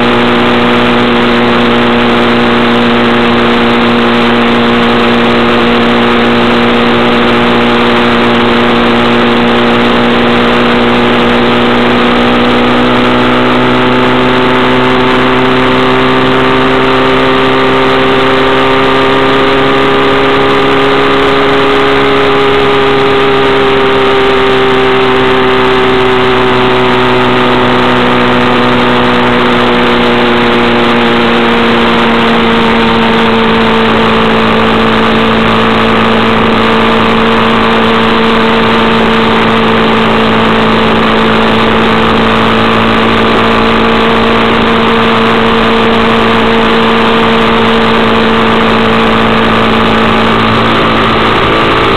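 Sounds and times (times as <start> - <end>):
vehicle engine cruising: 0.0 - 51.9
wind and road noise: 0.0 - 51.9.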